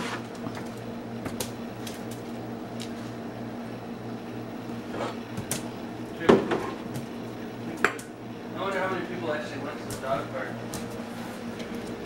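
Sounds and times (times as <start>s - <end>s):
appliance electrical hum: 0.0s - 12.0s.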